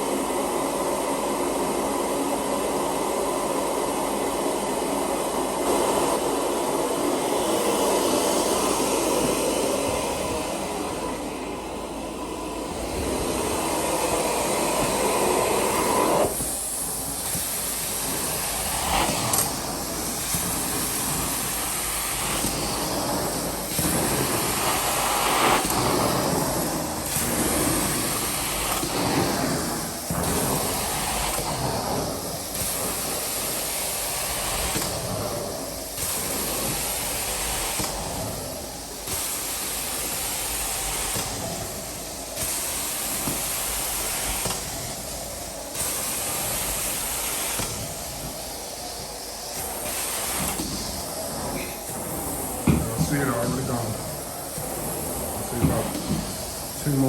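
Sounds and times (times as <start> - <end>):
carpet extraction machine: 0.0 - 57.0.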